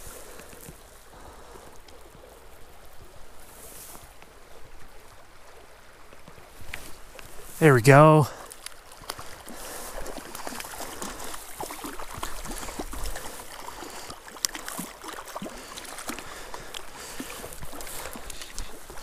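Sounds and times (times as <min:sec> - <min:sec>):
stream water splashing and gurgling: 0:00.0 - 0:19.0.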